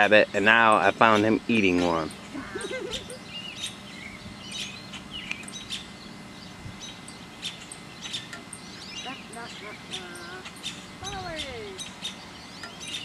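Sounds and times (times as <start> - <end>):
faint steady background hum: 0.0 - 13.0
songbirds chirping and trilling: 0.0 - 13.0.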